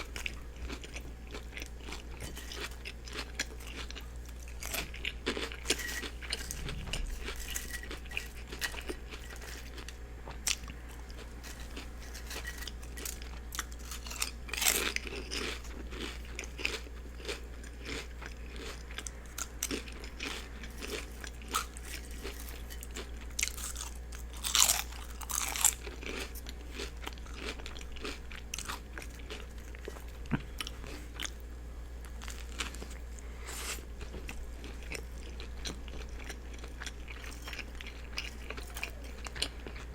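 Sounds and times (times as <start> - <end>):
chewing and crunchy bites: 0.0 - 31.4, 32.0 - 39.9
steady low hum: 0.0 - 39.9.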